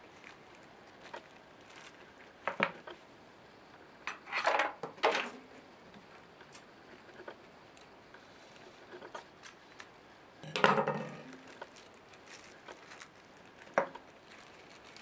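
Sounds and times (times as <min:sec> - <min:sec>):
plastic bag rustling: 0:00.0 - 0:03.1, 0:04.9 - 0:15.0.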